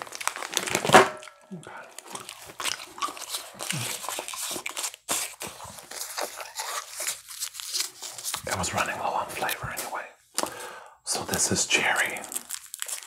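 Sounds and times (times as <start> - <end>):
plastic wrapper crinkling and tearing: 0.0 - 10.6, 11.2 - 13.0.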